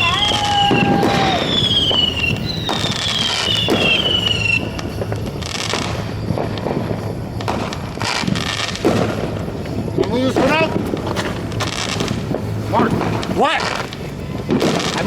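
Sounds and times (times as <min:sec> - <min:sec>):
firework bangs and crackle: 0:00.0 - 0:15.0
firework whistles: 0:00.0 - 0:15.0.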